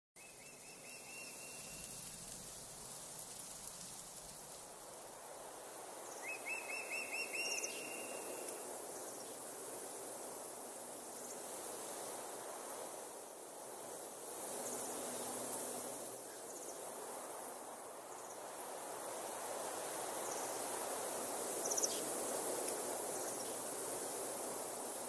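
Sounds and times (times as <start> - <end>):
steady outdoor hiss: 0.2 - 25.0.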